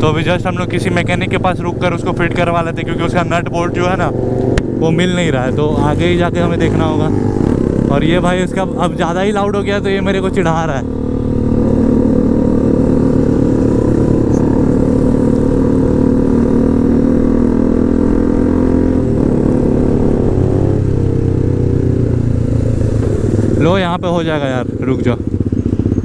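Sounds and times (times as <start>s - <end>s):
loud motorcycle engine running: 0.0s - 26.0s.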